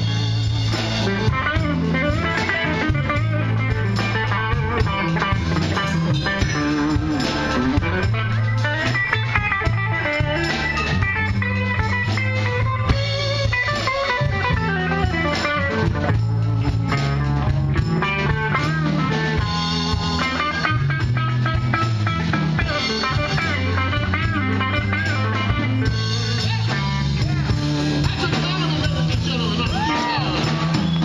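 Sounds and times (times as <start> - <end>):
bass guitar: 0.0 - 31.0
drum kit: 0.0 - 31.0
electric guitar lead lines: 0.0 - 31.0.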